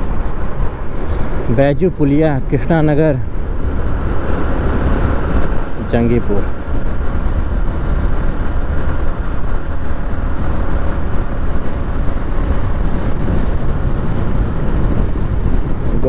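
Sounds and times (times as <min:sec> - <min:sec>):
motorcycle engine rumble: 0:00.0 - 0:16.0
wind noise: 0:00.0 - 0:16.0.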